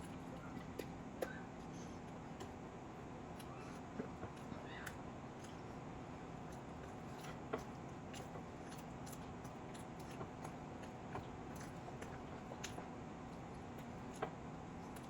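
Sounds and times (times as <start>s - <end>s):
faint chewing: 0.0s - 15.0s
low background hum: 0.0s - 15.0s.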